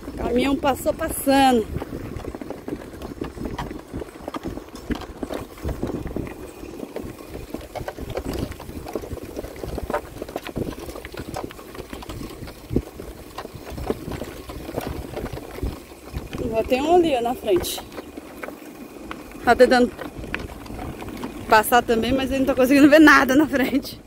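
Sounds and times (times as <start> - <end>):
knocks and rattles over bumps: 0.0 - 24.0
motorcycle engine rumble: 0.0 - 24.0.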